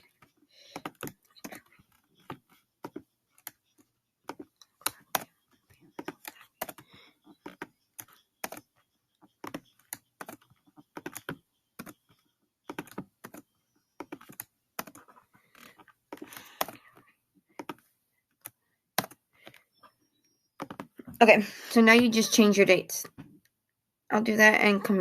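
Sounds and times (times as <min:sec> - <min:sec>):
typing on computer keyboard: 0:00.0 - 0:19.6, 0:20.6 - 0:21.0.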